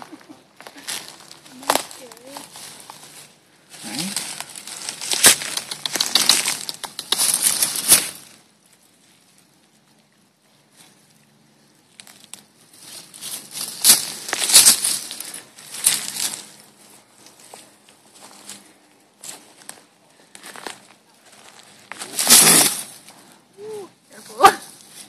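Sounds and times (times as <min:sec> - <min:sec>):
dry leaves and twigs crackling: 0:00.0 - 0:25.0.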